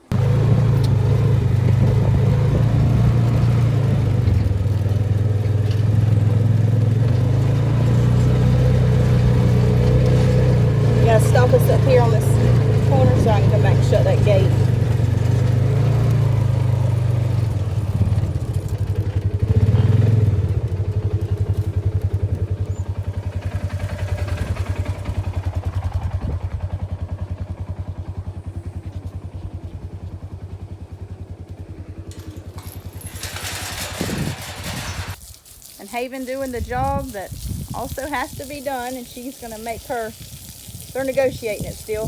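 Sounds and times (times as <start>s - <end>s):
vehicle engine low putter: 0.0s - 35.2s.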